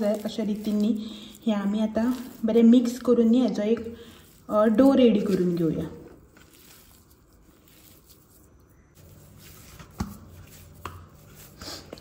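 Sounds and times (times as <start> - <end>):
hand kneading soft dough: 0.0 - 12.0.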